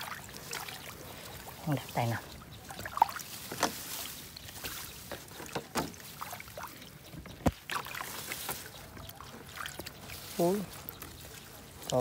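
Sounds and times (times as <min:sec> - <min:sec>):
sharp splashes and knocks: 0:00.0 - 0:01.9, 0:02.7 - 0:12.0
water splashing and dripping: 0:00.0 - 0:12.0.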